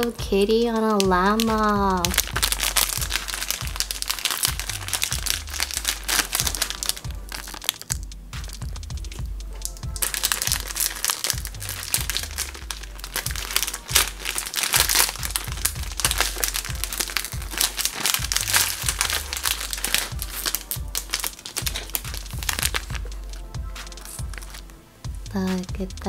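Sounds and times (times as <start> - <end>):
foil snack pouch crinkling: 0.0 - 8.7, 9.6 - 24.8
background music with bass line: 0.0 - 26.0.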